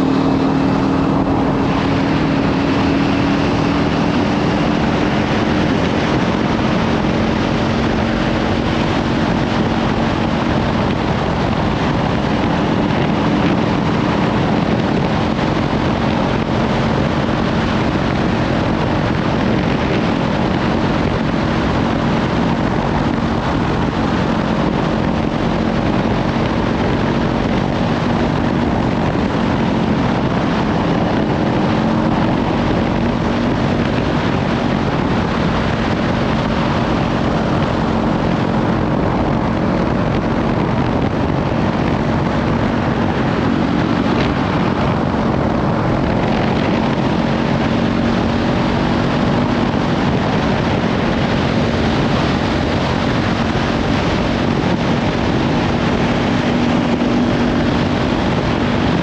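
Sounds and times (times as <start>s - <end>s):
motorcycle engine cruising: 0.0s - 59.0s
wind buffeting on microphone: 0.0s - 59.0s.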